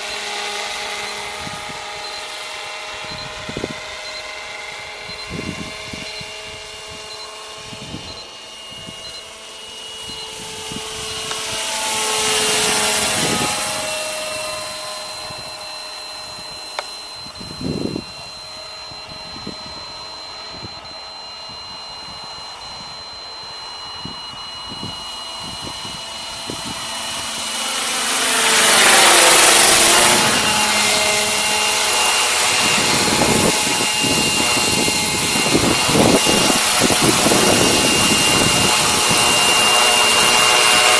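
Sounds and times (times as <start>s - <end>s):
model helicopter rotor whine: 0.0s - 40.9s.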